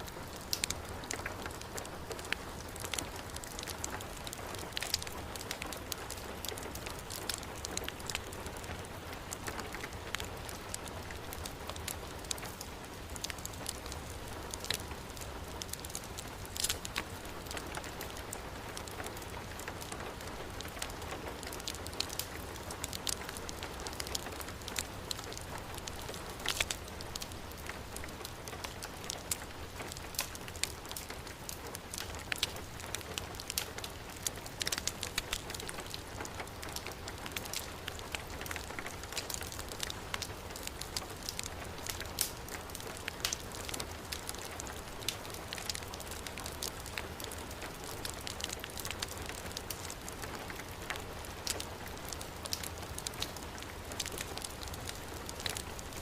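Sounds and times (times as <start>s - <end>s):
heavy rain: 0.0s - 56.0s
wood fire crackling: 0.0s - 56.0s.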